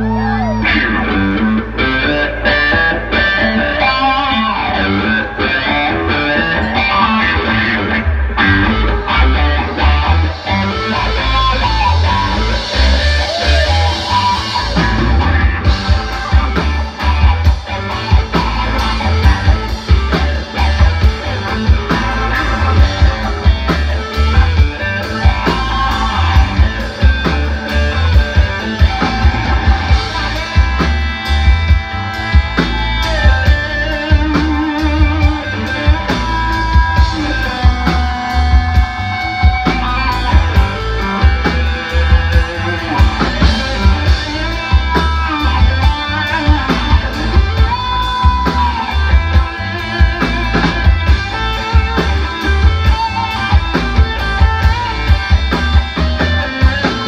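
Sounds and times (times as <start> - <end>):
electric guitar through amplifier: 0.0 - 57.0
live rock band: 0.0 - 57.0
drum kit steady beat: 6.7 - 57.0.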